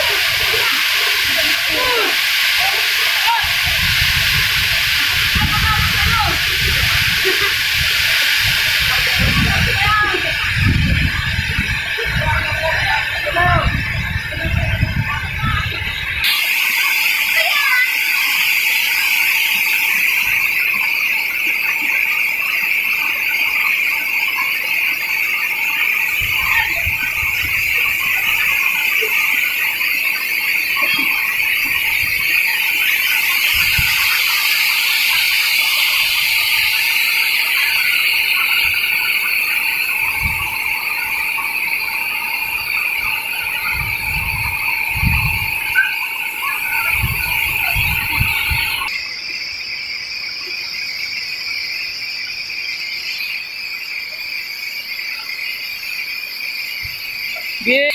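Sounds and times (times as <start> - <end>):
insect chorus drone: 0.0 - 57.9.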